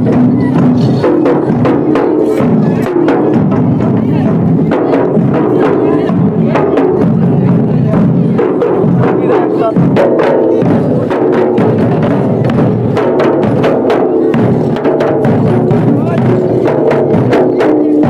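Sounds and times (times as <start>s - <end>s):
crowd voices: 0.0s - 18.0s
wooden barrel drums beaten: 0.0s - 18.0s.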